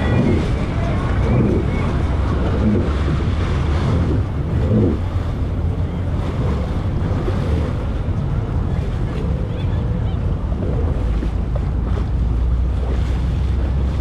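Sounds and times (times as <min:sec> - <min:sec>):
jet ski engine drone: 0:00.0 - 0:14.0
rushing water: 0:00.0 - 0:14.0
wind buffeting on microphone: 0:00.0 - 0:14.0.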